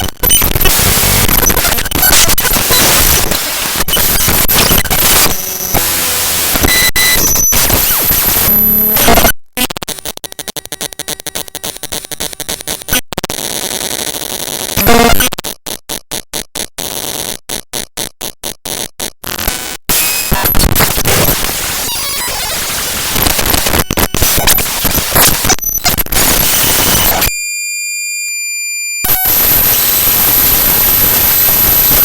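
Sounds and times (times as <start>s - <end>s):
harsh digital static: 0.0s - 17.8s, 18.4s - 27.4s, 29.0s - 32.0s.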